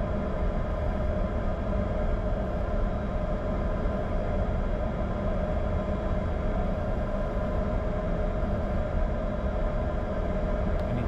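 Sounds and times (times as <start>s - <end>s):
jet engines idling hum: 0.0s - 11.0s.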